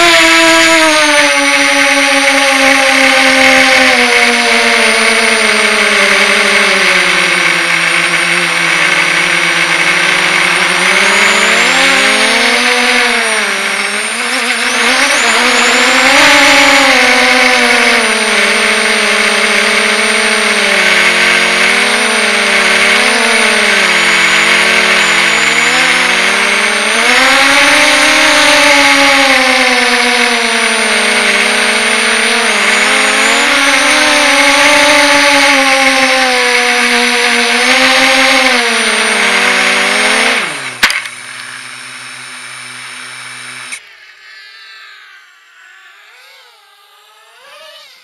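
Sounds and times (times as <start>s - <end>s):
drone motors and propellers whining: 0.0s - 48.0s.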